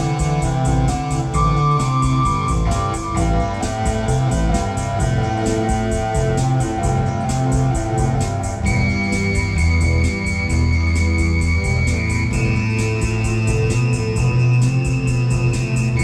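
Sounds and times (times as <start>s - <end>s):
bass line: 0.0s - 16.0s
held organ-like chords: 0.0s - 16.0s
steady drum beat: 0.0s - 16.0s
synthesizer keyboard accompaniment: 0.0s - 16.0s.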